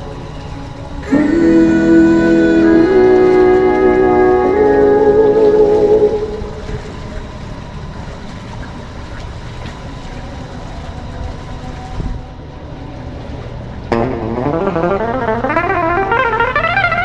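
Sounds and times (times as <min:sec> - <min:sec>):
boat engine rumble: 0:00.0 - 0:17.0
water noise: 0:00.0 - 0:17.0
wind: 0:00.0 - 0:17.0.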